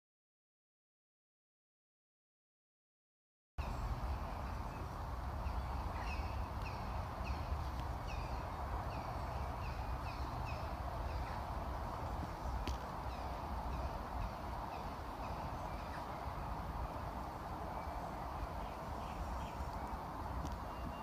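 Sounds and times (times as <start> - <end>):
birds calling downward-sliding notes: 3.6 - 21.0
continuous rushing background: 3.6 - 21.0.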